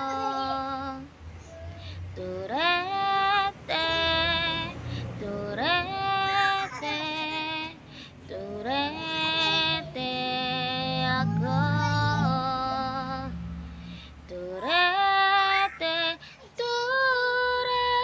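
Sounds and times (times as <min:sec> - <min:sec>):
woman singing a cappella: 0:00.0 - 0:01.2, 0:01.8 - 0:18.0.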